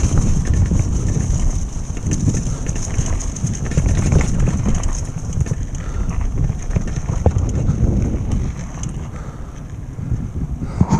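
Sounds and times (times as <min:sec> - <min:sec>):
bike tyres rumbling on rough ground: 0:00.0 - 0:10.9
wind on microphone: 0:00.0 - 0:10.9.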